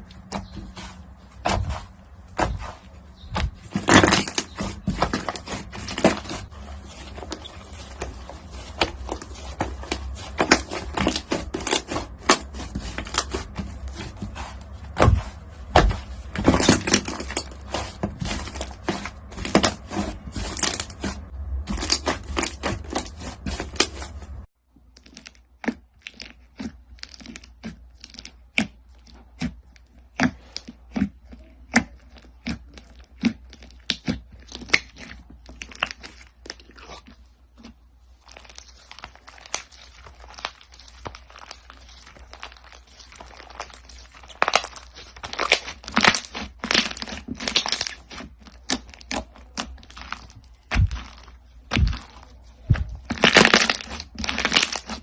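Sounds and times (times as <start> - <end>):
crunchy slime crackling: 0.0 - 55.0.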